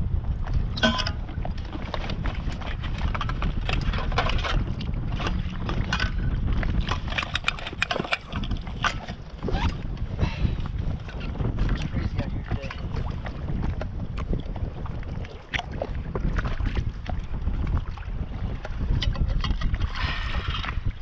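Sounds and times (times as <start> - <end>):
water lapping against hull: 0.0 - 21.0
wind buffeting microphone: 0.0 - 21.0.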